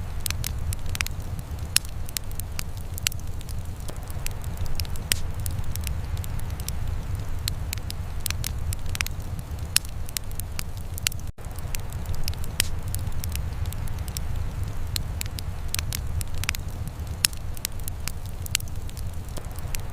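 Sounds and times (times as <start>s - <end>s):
sharp pops and snaps: 0.0s - 19.9s
wood fire crackling: 0.0s - 19.9s.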